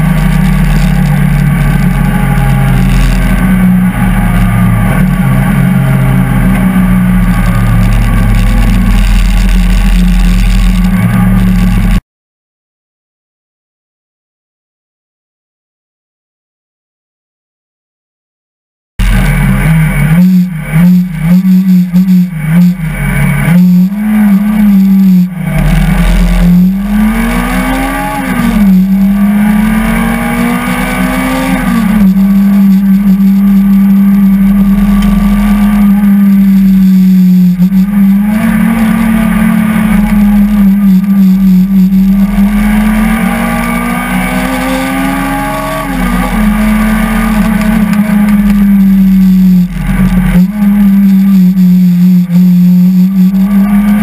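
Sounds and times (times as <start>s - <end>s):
car engine revving through gears: 0.0s - 12.0s, 19.0s - 54.0s.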